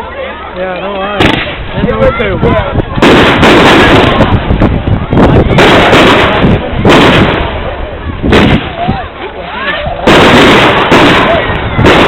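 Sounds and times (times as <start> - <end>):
fireworks bangs and crackling: 1.1 - 12.0.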